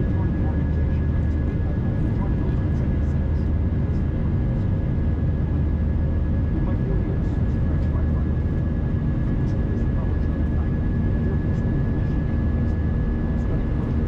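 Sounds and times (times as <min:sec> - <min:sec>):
jet engine cabin drone: 0:00.0 - 0:14.0.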